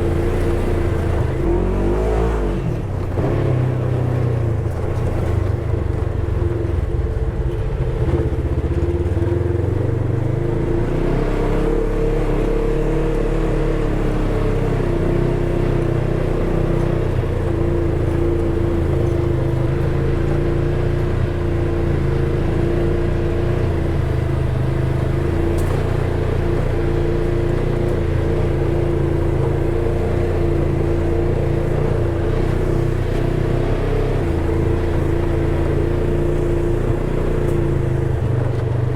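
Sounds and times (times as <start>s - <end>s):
utility vehicle engine droning: 0.0s - 38.9s.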